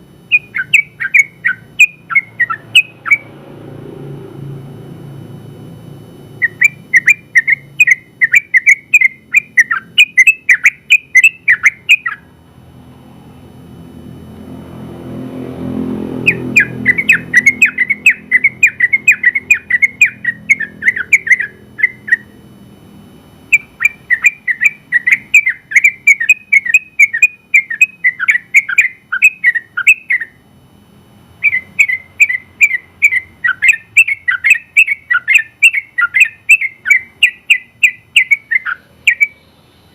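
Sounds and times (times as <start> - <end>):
bulbul singing: 0.0 - 4.4, 5.0 - 30.6, 31.3 - 39.9.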